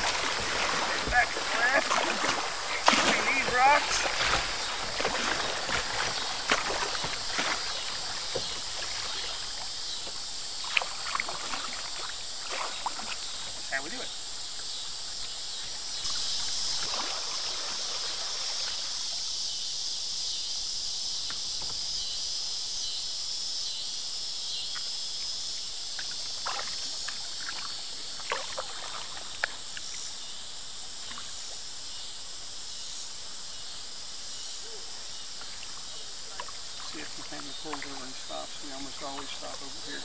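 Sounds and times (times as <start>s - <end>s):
paddle splashes and drips: 0.0s - 19.4s, 24.6s - 32.4s, 34.8s - 40.0s
water rushing and hissing: 0.0s - 20.1s, 24.8s - 40.0s.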